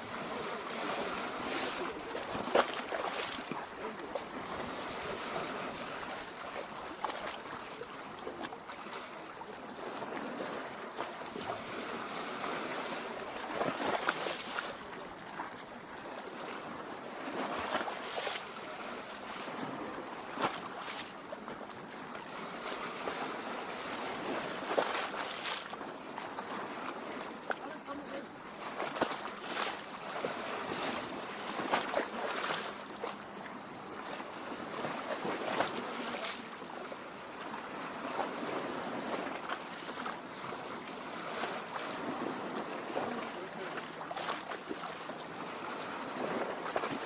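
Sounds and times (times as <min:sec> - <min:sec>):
lake water lapping at shore: 0:00.0 - 0:47.0.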